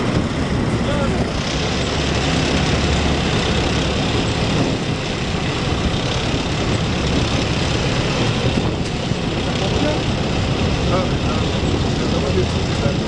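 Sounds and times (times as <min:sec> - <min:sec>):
heavy vehicle engine running: 0:00.0 - 0:13.0
road noise: 0:00.0 - 0:13.0
wind noise: 0:00.0 - 0:13.0.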